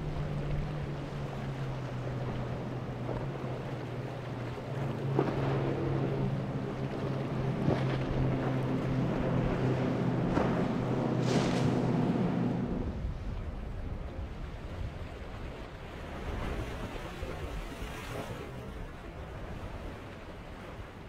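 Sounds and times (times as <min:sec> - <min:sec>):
boat engines humming: 0:00.0 - 0:21.0
water noise: 0:00.0 - 0:21.0
wind on microphone: 0:00.0 - 0:21.0.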